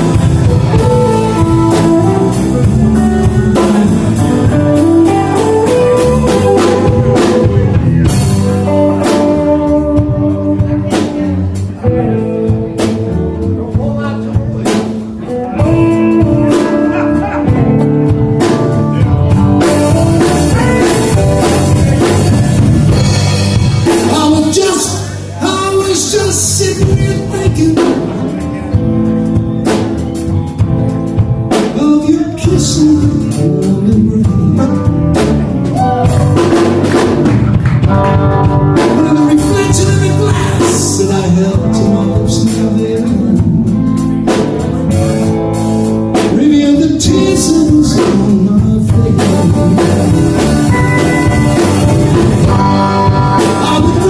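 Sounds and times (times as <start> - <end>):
drum kit: 0.0 - 54.0
lead melody line: 0.0 - 54.0.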